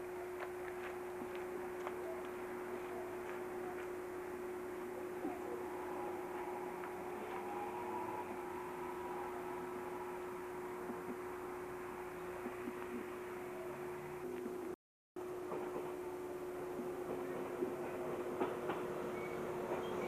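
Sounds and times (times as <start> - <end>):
steady tonal hum: 0.0 - 20.0.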